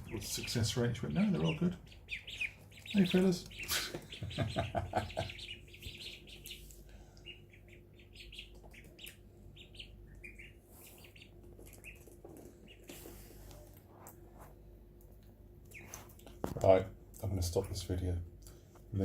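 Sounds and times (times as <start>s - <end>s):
ducklings peeping: 0.0s - 14.2s, 15.6s - 17.9s
faint steady hum: 0.0s - 19.0s.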